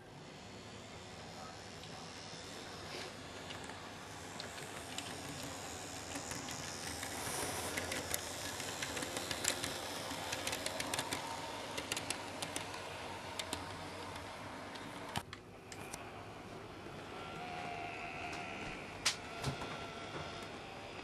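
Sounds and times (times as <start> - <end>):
model train motor hum: 0.0 - 21.0.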